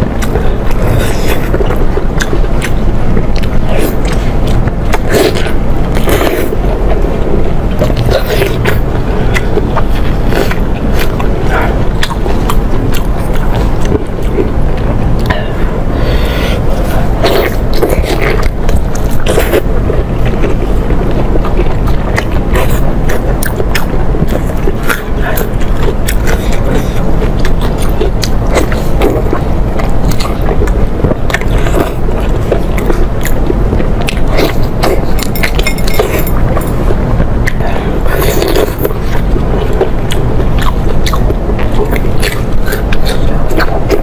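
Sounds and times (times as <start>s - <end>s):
chewing and biting: 0.0s - 44.0s
steady low rumble: 0.0s - 44.0s.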